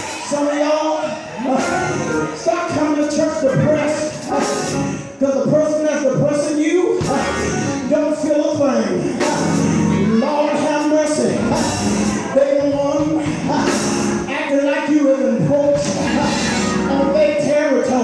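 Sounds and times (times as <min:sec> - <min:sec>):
church band music: 0:00.0 - 0:18.0
preacher chanting amplified: 0:00.2 - 0:18.0.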